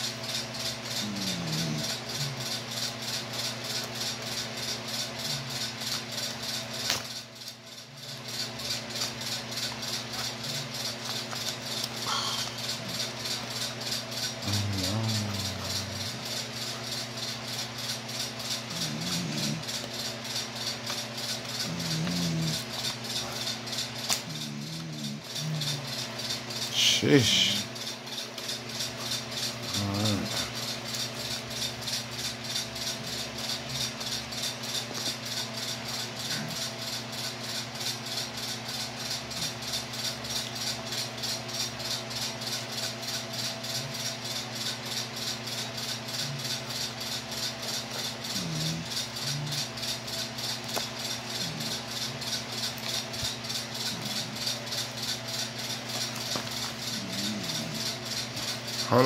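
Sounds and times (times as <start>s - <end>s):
fast rhythmic rattling: 0.2s - 59.0s.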